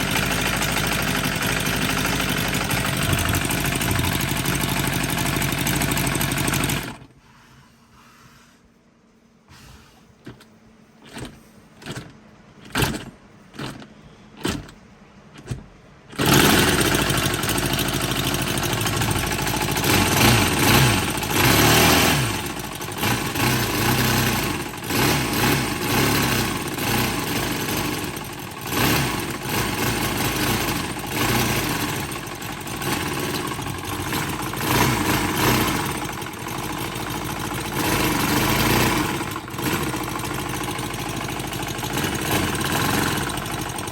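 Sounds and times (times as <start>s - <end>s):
engine rattles: 0.0s - 7.1s, 10.2s - 43.9s
model engine starting and running: 0.0s - 7.1s, 10.2s - 43.9s.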